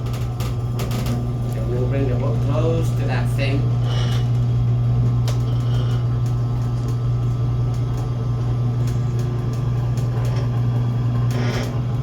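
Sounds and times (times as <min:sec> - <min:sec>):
electric motor humming: 0:00.7 - 0:12.0.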